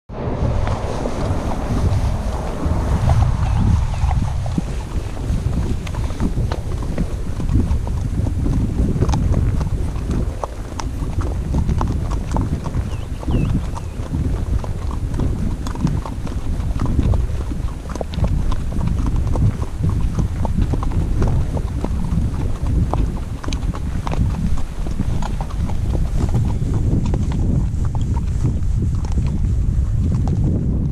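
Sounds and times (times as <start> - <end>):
low rumble: 0.0 - 30.9
horse hooves clip-clopping on dirt: 0.6 - 30.9.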